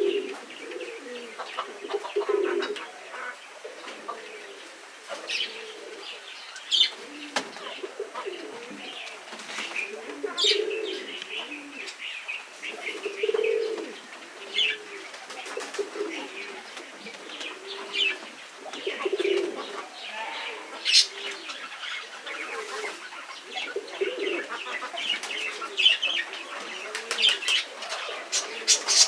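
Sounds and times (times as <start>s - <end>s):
low cooing bird call: 0.0s - 29.0s.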